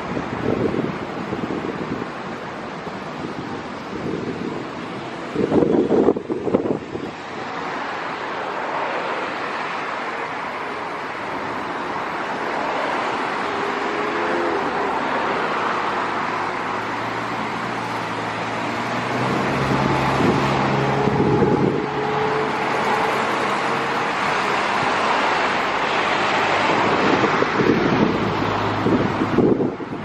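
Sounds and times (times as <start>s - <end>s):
engine roar: 0.0s - 30.0s
wind buffeting microphone: 0.0s - 30.0s.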